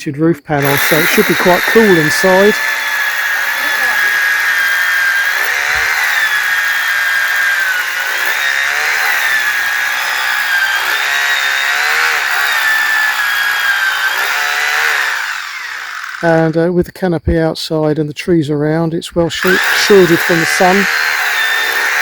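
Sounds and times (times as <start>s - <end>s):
power tool high whine: 0.4s - 16.5s, 19.4s - 22.0s.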